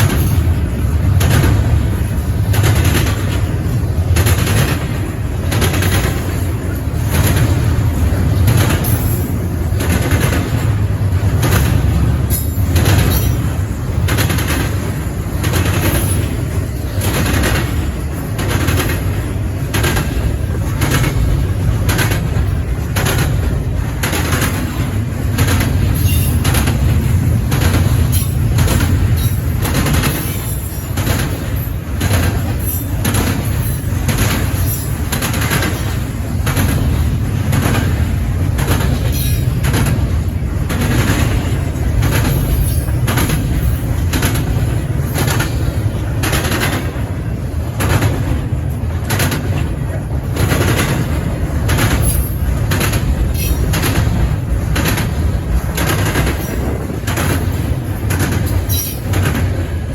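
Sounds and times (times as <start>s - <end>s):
freight train rumbling past: 0.0s - 59.9s
wheels clacking on track joints: 0.0s - 59.9s.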